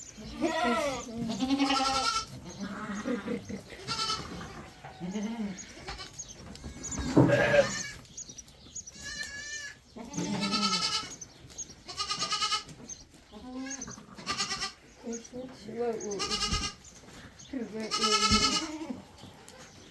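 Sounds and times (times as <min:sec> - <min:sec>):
goats bleating: 0:00.1 - 0:08.1, 0:08.9 - 0:11.2, 0:11.8 - 0:16.8, 0:17.7 - 0:19.8.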